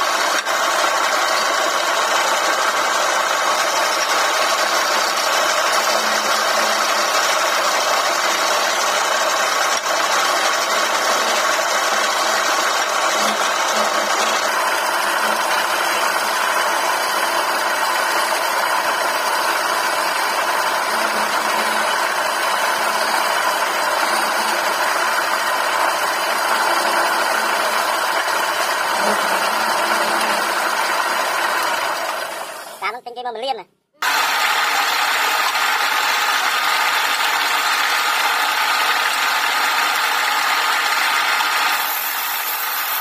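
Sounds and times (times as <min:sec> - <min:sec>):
chisel scraping spinning wood: 0:00.0 - 0:32.8, 0:34.0 - 0:43.0
lathe motor hum: 0:00.0 - 0:32.8, 0:34.0 - 0:43.0.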